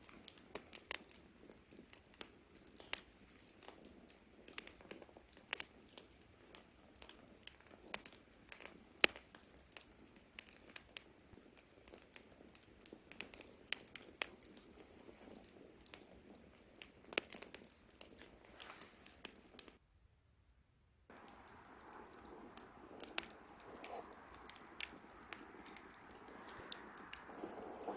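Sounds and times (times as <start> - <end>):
campfire crackling and popping: 0.0 - 19.8, 21.1 - 27.9.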